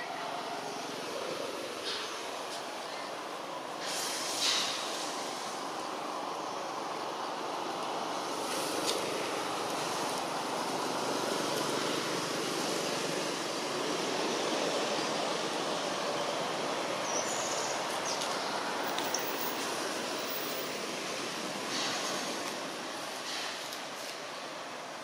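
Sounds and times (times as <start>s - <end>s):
outdoor background rush: 0.0s - 25.0s.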